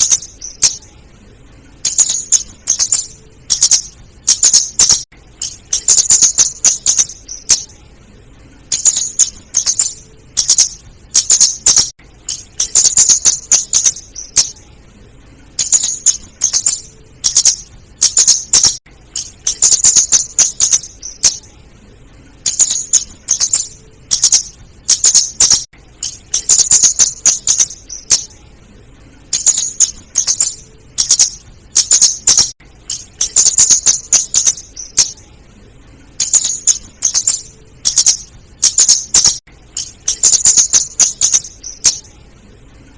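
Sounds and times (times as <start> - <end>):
bird high-pitched chattering calls: 0.0 - 0.9, 1.8 - 7.8, 8.7 - 14.6, 15.6 - 21.5, 22.4 - 28.3, 29.3 - 35.2, 36.2 - 42.1.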